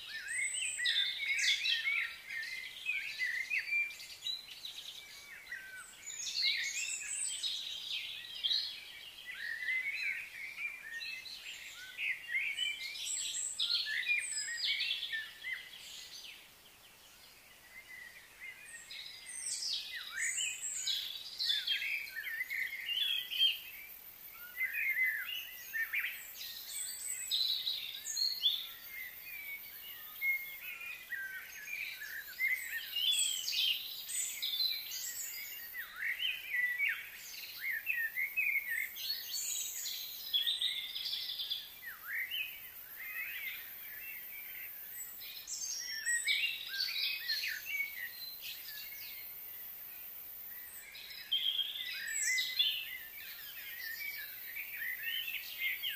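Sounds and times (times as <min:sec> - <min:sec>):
songbirds chirping: 0:00.0 - 0:55.9.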